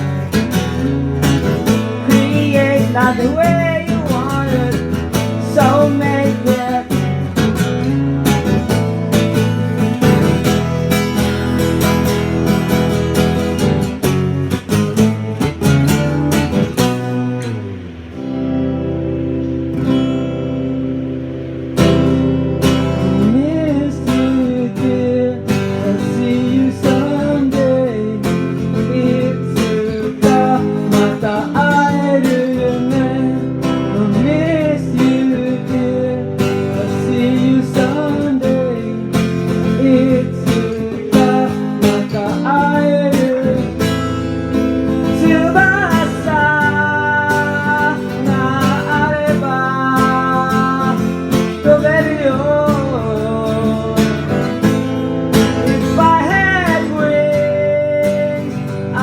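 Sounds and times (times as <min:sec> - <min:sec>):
acoustic guitar strumming: 0:00.0 - 0:59.0
sliding guitar melody: 0:00.0 - 0:59.0.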